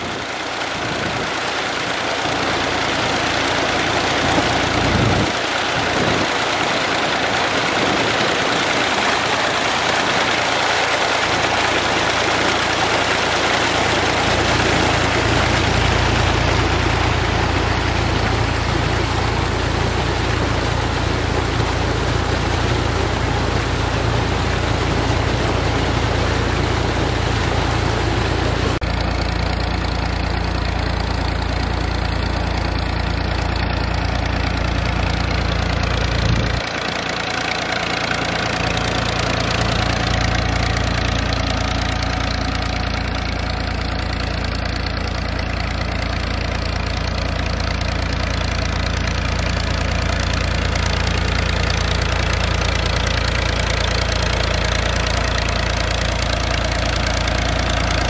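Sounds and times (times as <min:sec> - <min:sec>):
tractor diesel engine running: 0:00.0 - 0:58.0
water gushing into a tank: 0:00.0 - 0:58.0.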